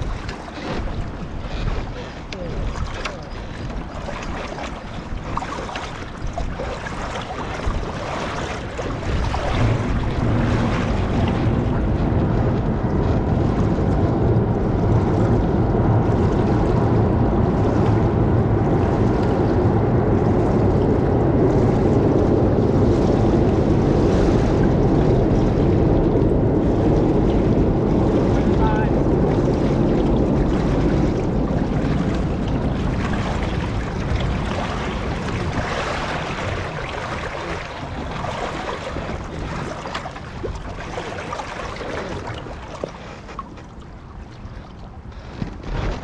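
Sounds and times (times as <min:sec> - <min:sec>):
motorboat engine drone: 0:00.0 - 0:46.0
water noise: 0:00.0 - 0:46.0
wind buffeting microphone: 0:00.0 - 0:46.0.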